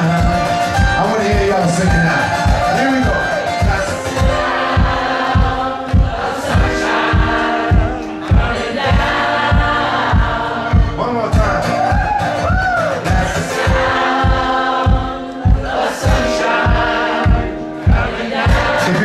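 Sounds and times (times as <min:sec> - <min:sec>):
acoustic guitars strummed: 0:00.0 - 0:19.0
men singing: 0:00.0 - 0:19.0
steady low beat: 0:00.0 - 0:19.0.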